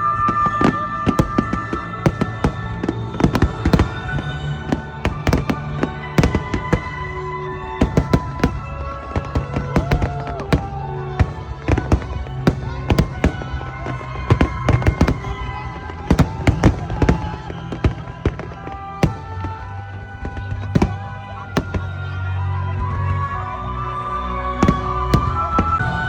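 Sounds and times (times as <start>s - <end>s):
fireworks bursting: 0.0s - 22.6s, 24.6s - 25.9s
music playing: 0.0s - 26.0s.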